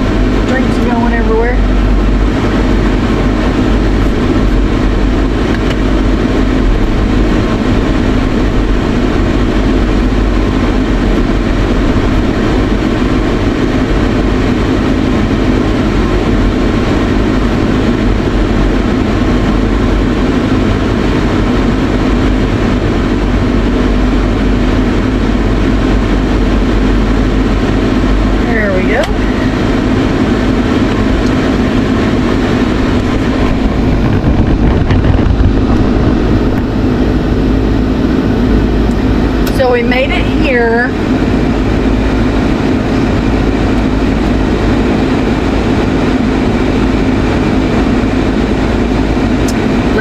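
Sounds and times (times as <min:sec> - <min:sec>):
car engine humming: 0:00.0 - 0:50.0.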